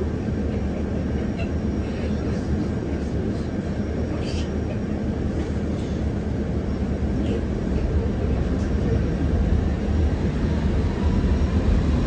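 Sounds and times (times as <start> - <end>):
bus running low rumble: 0.0 - 12.0.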